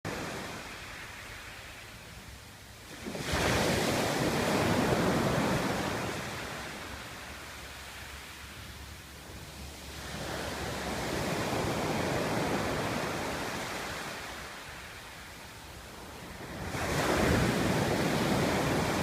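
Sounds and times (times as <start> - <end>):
sea waves washing on shore: 0.1 - 19.0.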